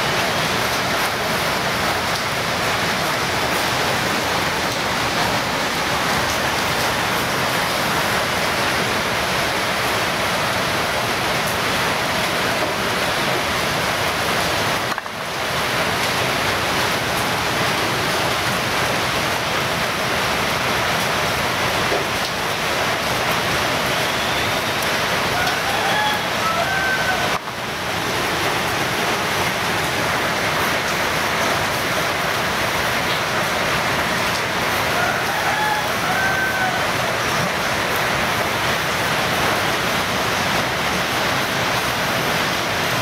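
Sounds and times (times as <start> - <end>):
steady loud rushing noise: 0.0 - 34.9.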